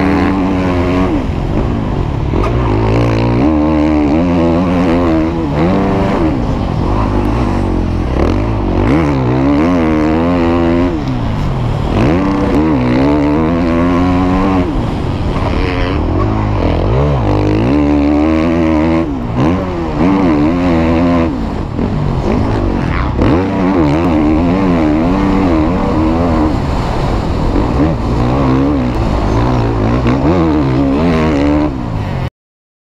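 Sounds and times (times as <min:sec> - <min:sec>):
motocross bike engine revving: 0:00.0 - 0:32.3.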